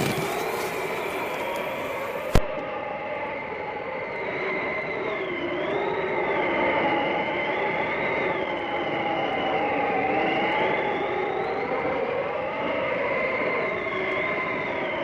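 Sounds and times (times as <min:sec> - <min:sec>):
howling blizzard wind: 0:00.0 - 0:15.0.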